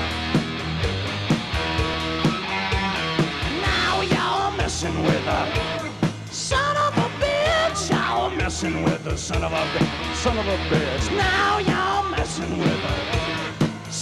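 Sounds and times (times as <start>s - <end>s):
bass and guitar: 0.0s - 14.0s
drum beat: 0.0s - 14.0s.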